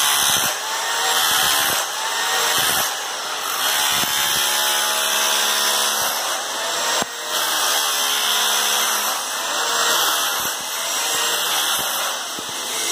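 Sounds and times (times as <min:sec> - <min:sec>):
demolition hammer chipping flooring: 0:00.0 - 0:12.9.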